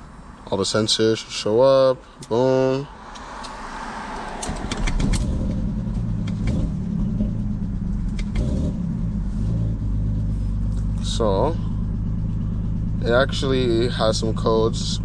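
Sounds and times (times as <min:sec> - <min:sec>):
car engine starting and idling: 0:01.1 - 0:15.0.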